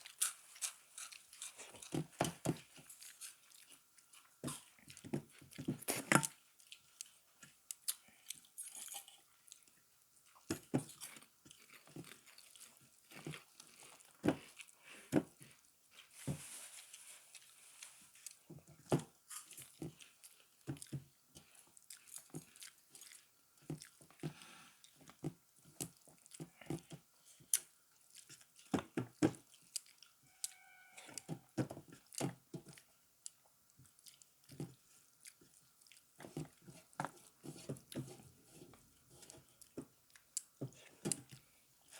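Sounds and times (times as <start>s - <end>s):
food crunching: 0.0s - 16.2s, 16.8s - 41.9s
person chewing: 0.0s - 16.2s, 16.8s - 41.9s.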